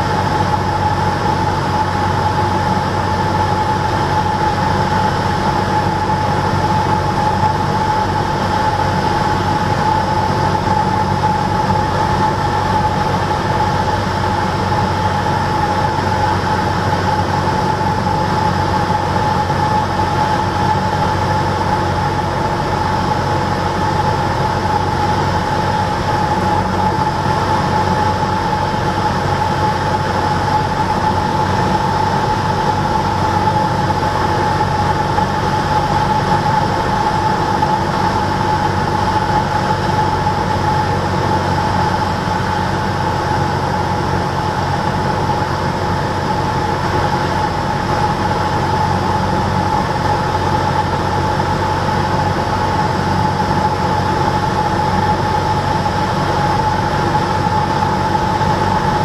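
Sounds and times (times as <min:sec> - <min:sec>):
airplane engine drone in cabin: 0:00.0 - 0:59.0
steady high whine: 0:00.0 - 0:59.0.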